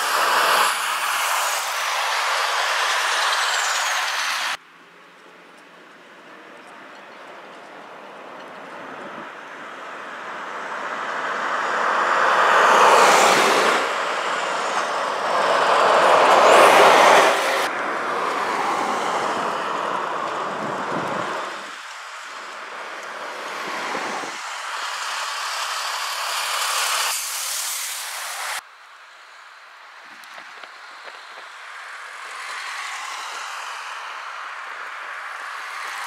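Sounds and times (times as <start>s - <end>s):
road traffic passing: 0.0s - 28.6s, 30.0s - 36.0s.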